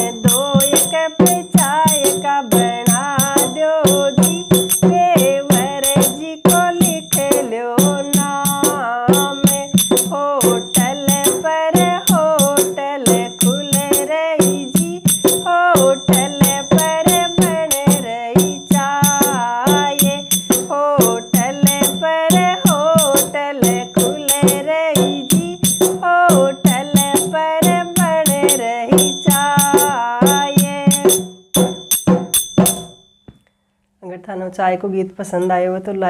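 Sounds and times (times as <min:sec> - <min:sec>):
woman singing folk song: 0:00.0 - 0:31.2
rattle percussion clicking beat: 0:00.0 - 0:33.2.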